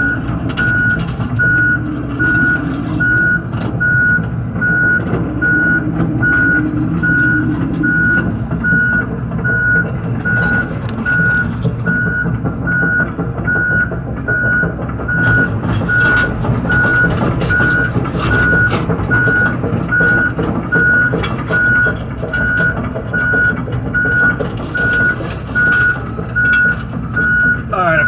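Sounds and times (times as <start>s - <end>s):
diesel engine running: 0.0s - 28.0s
metal clanks and rattles: 0.0s - 28.0s
travel alarm beeping: 0.1s - 28.0s.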